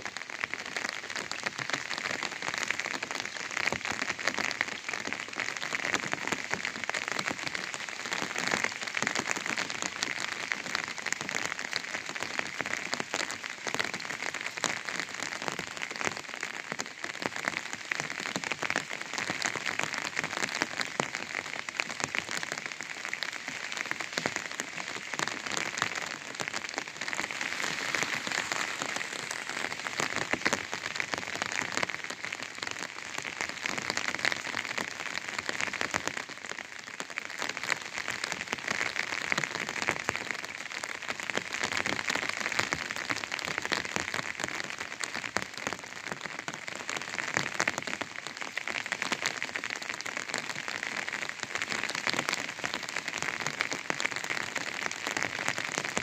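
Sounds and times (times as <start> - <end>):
rain falling on an umbrella: 0.0 - 56.0.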